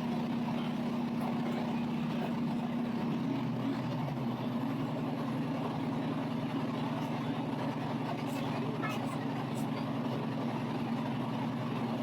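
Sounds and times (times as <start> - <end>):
diesel train engine droning: 0.0 - 12.0.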